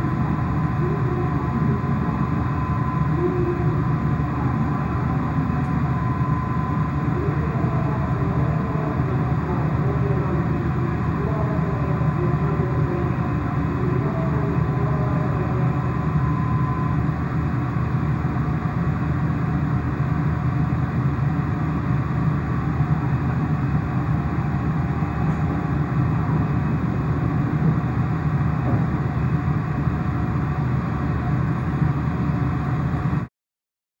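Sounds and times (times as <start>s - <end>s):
train cabin rumble and hiss: 0.0s - 33.3s.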